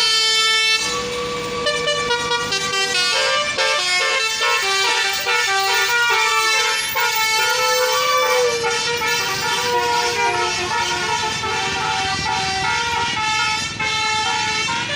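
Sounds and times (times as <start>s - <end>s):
air horn playing a melody: 0.0s - 14.9s.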